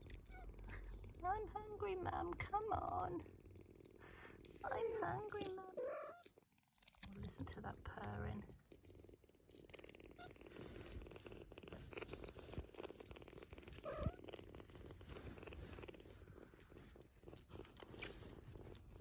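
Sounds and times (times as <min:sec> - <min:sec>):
cats purring faintly: 0:00.0 - 0:19.0.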